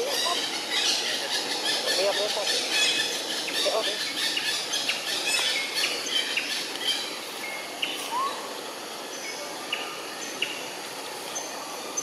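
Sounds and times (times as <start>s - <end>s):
birds chirping: 0.0s - 12.0s
steady outdoor hiss: 0.0s - 12.0s.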